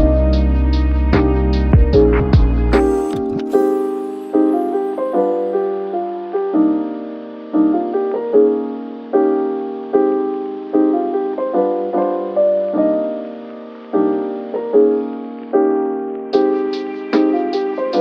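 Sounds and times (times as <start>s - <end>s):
slow piano piece: 0.0s - 18.0s.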